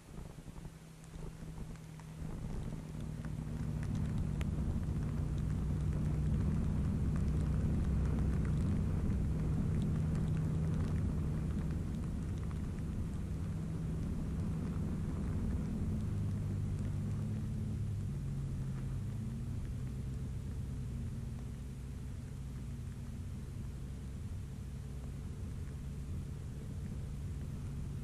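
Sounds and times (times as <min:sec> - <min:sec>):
rain and wet road hiss: 0:00.0 - 0:28.0.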